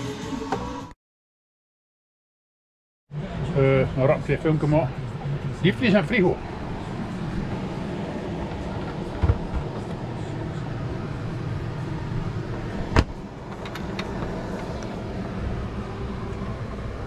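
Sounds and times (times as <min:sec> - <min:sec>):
steady low hum: 0:03.2 - 0:17.0.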